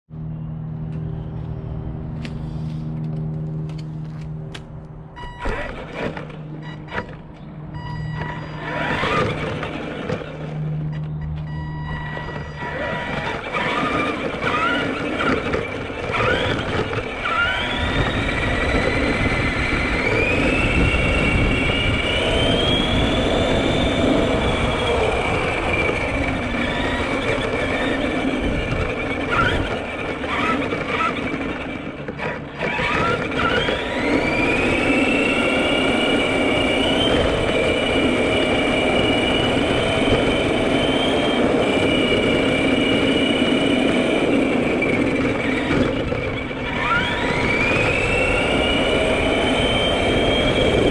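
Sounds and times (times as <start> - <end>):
motor whine rising and falling: 5.1 - 50.9
toy truck motor hum: 5.2 - 50.9.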